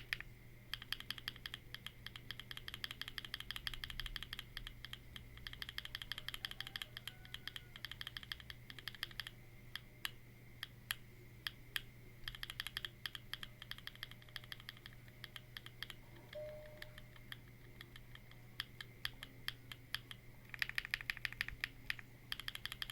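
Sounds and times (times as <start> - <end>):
mechanical keyboard typing: 0.0 - 9.9, 10.6 - 22.9.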